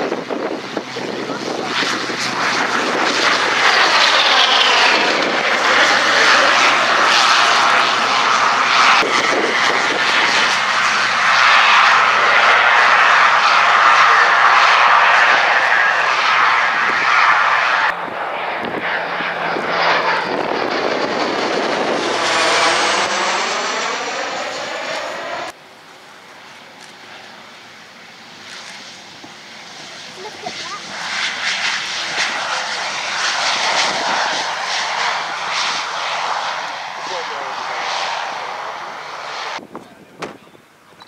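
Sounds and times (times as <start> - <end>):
turboprop engine running loud: 0.0 - 41.0
twin-turboprop plane flying over: 0.0 - 41.0.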